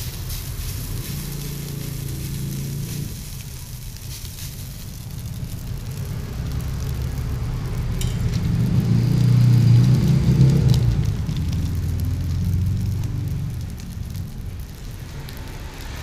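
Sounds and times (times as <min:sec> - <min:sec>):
vehicle engine rumble passing: 0:00.0 - 0:16.0.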